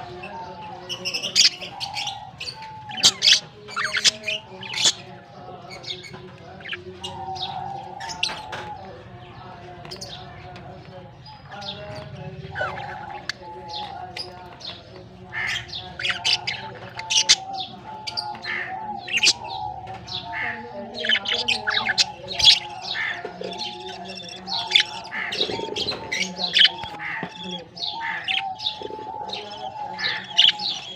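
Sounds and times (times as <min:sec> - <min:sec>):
budgerigars chirping: 0:00.0 - 0:30.9.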